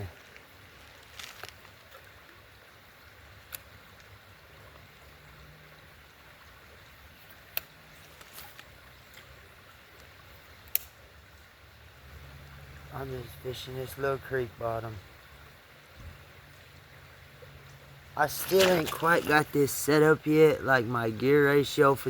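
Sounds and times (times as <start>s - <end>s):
soft steady hiss: 0.0s - 22.0s.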